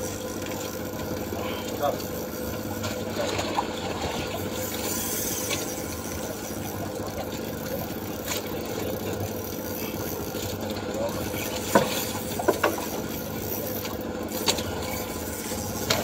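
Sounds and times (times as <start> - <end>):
boat engine humming: 0.0 - 16.0
water noise: 0.0 - 16.0.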